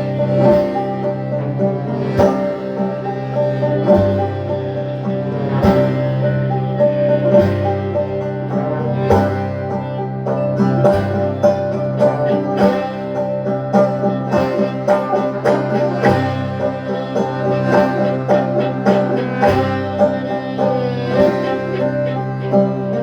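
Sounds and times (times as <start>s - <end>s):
held low note: 0.0s - 23.0s
plucked string band music: 0.0s - 23.0s.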